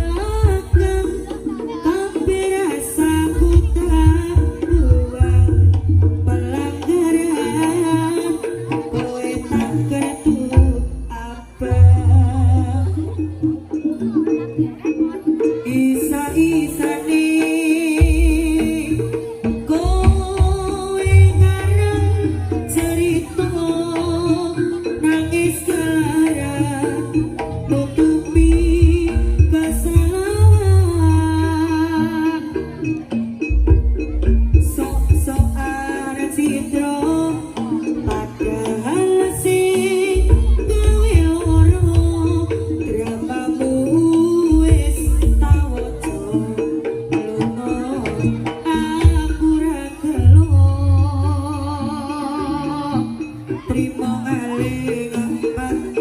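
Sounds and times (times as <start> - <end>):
hand drums beating: 0.0 - 56.0.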